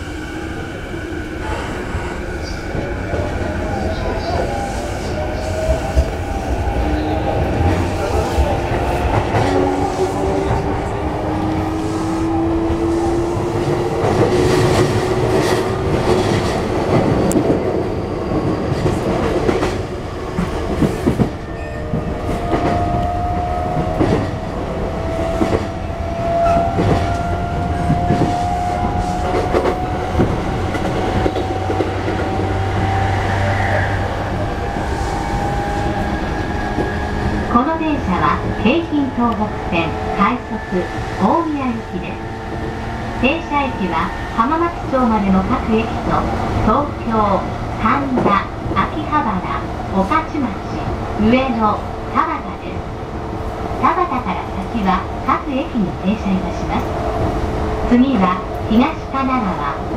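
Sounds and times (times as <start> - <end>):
wheels clacking on rails: 2.7 - 52.6.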